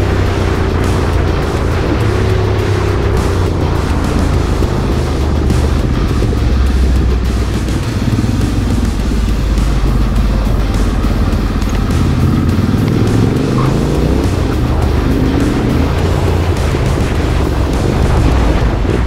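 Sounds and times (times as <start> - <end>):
background music: 0.0 - 19.0
motorcycle engines running: 0.0 - 19.0.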